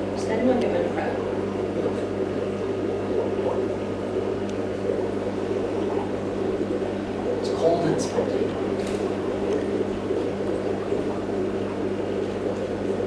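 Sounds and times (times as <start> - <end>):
aquarium pump humming: 0.0 - 13.0
water bubbling: 0.0 - 13.0.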